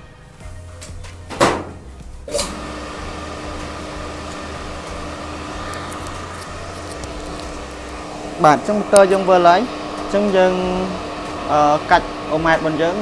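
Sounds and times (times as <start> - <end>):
electric motor humming: 2.3 - 13.0.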